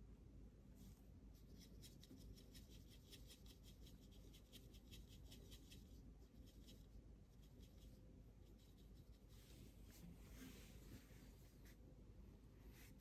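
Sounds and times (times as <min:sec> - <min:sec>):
brush scratching on paper: 0:01.3 - 0:11.8.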